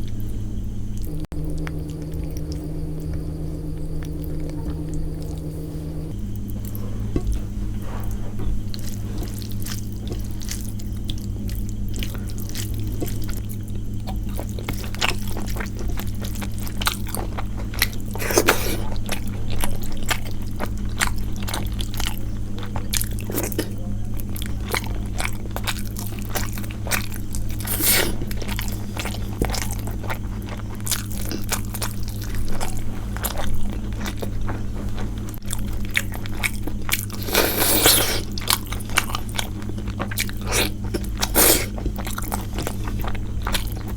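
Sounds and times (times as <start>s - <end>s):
steady low hum: 0.0s - 43.9s
person chewing and eating: 1.0s - 43.9s.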